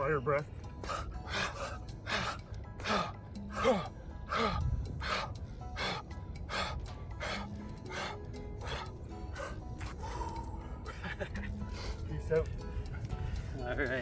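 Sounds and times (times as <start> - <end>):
forceful rhythmic breathing: 0.0 - 14.0.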